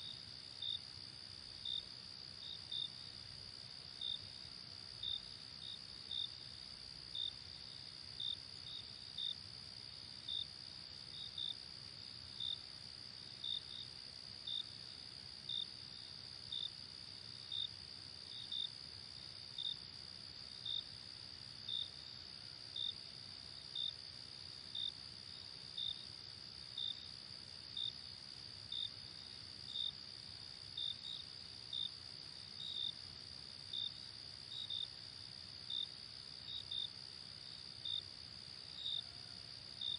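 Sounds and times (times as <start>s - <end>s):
cricket chirps: 0.0s - 39.9s.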